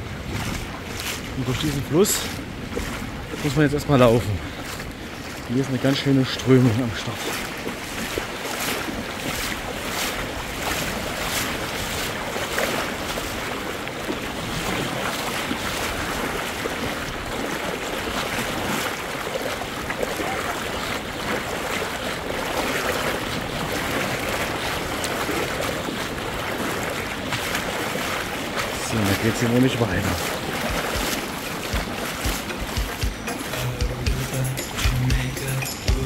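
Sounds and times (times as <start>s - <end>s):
person wading: 0.0s - 36.0s
river water rushing: 0.0s - 36.0s.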